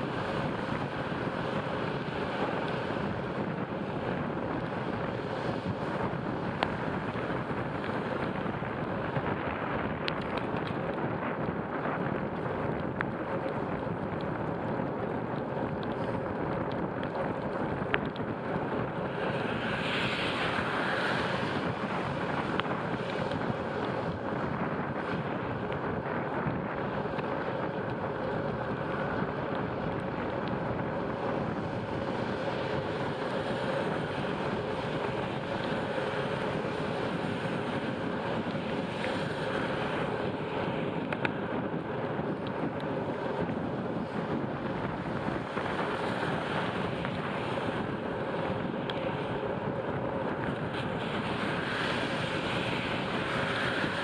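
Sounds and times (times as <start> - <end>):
bicycle tyre hiss on wet road: 0.0 - 54.0
wind on microphone: 0.0 - 54.0.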